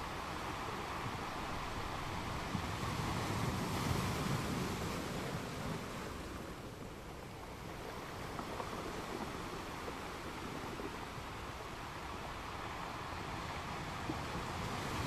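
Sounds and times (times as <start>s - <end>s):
waves breaking and washing: 0.0s - 15.0s.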